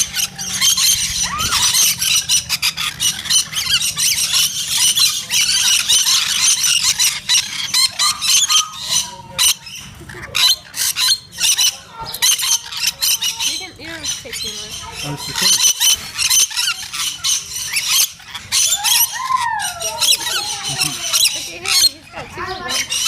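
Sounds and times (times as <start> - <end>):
birds squawking and screeching: 0.0 - 23.0.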